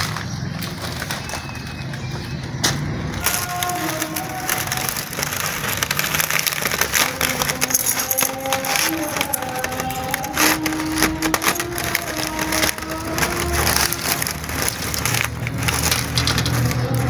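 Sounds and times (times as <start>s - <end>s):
newspaper crackling: 0.0s - 2.4s, 3.2s - 17.0s
shears cutting: 3.2s - 17.0s
wire mesh rustling: 3.2s - 17.0s.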